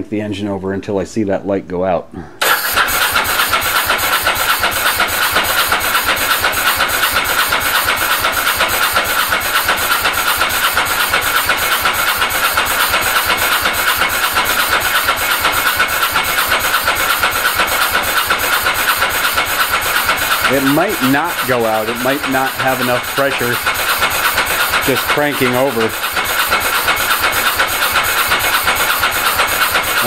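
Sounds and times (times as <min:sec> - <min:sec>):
engine cranking: 0:02.4 - 0:30.0
starter motor whine: 0:02.4 - 0:30.0.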